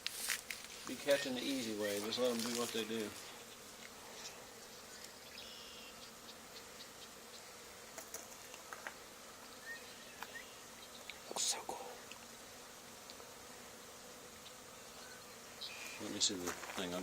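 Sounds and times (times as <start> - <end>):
bee swarm buzzing: 0.0 - 17.0.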